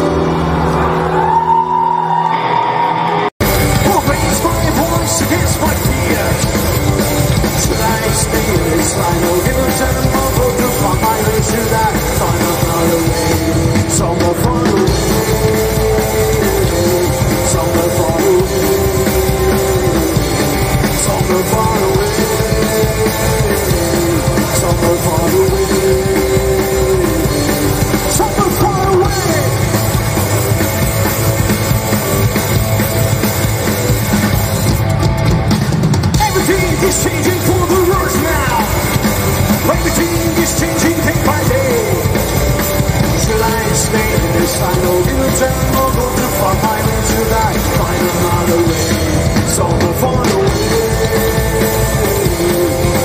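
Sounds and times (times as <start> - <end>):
drum kit: 0.0 - 53.0
electric guitar: 0.0 - 53.0
rock band playing: 0.0 - 53.0.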